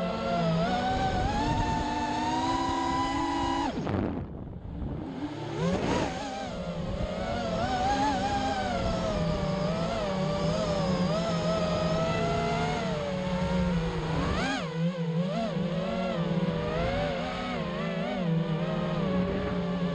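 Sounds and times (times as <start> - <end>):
quadcopter motors whining: 0.0 - 19.9.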